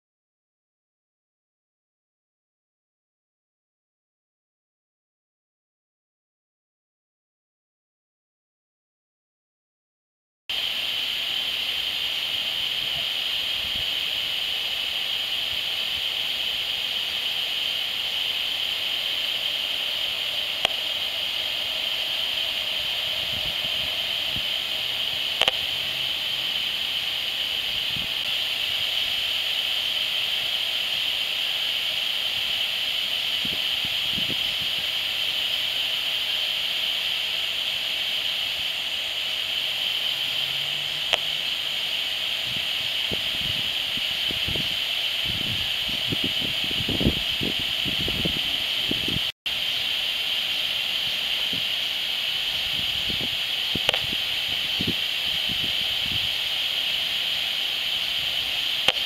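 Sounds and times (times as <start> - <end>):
static hiss: 10.5 - 59.0.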